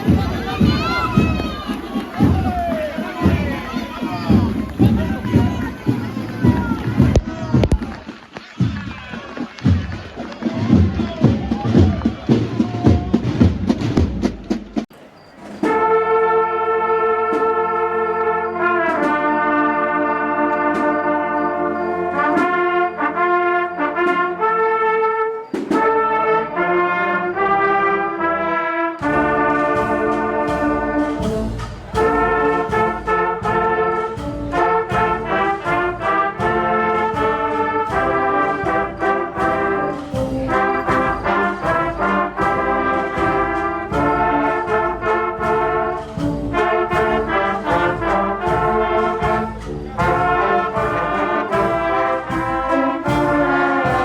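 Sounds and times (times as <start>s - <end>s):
brass band playing a march: 0.0s - 54.0s.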